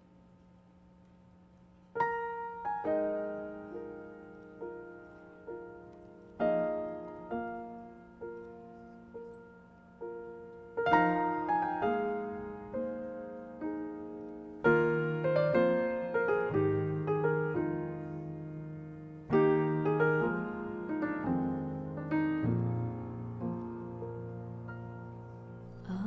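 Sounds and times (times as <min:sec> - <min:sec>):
faint steady hum: 0:00.0 - 0:26.0
slow solo piano: 0:01.8 - 0:26.0.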